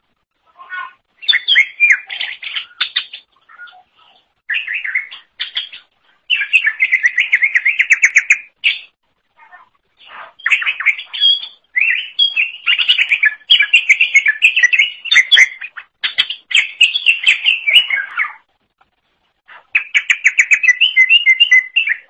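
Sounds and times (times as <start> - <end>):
bird singing chirps and trills: 0.6 - 9.6, 10.3 - 18.5, 19.8 - 22.0.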